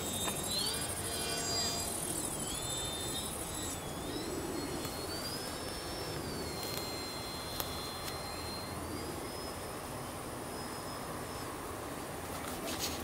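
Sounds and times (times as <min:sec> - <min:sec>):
model aircraft motor whine: 0:00.0 - 0:10.8
outdoor background hiss: 0:00.0 - 0:13.0.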